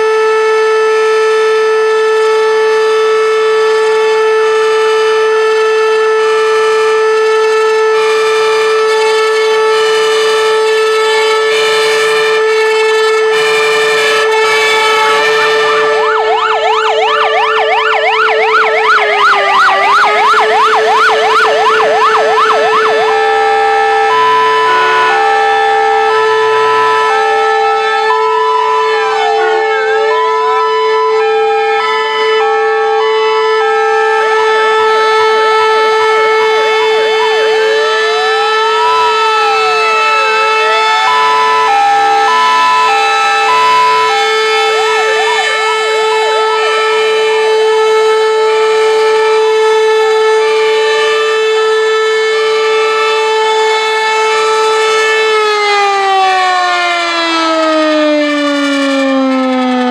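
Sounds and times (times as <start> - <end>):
fire engine electronic sirens: 0.0 - 59.9
steady held siren tone: 0.0 - 59.9.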